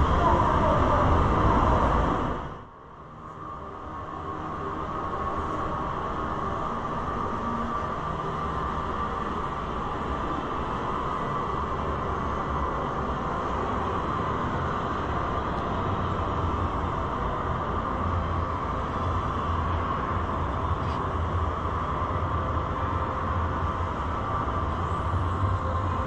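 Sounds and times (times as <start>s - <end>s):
indoor hall hum and hiss: 0.0s - 26.0s.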